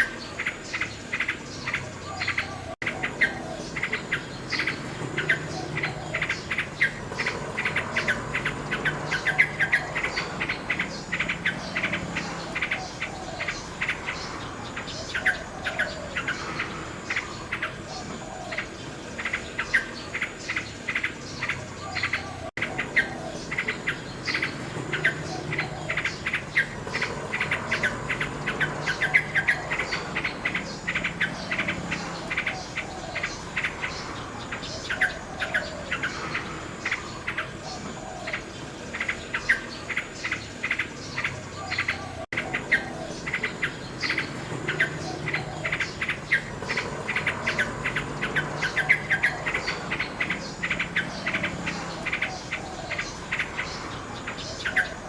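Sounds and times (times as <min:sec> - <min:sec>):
insects chirping: 0:00.0 - 0:55.0
nightingale singing: 0:00.0 - 0:55.0.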